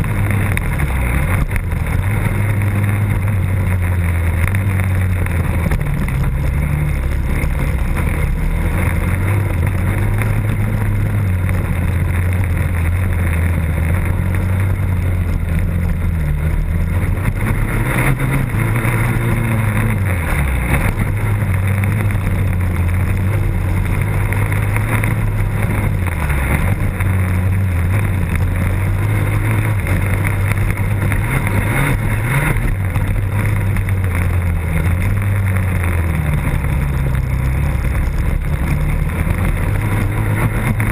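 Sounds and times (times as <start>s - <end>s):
race engine running hard: 0.0s - 40.9s.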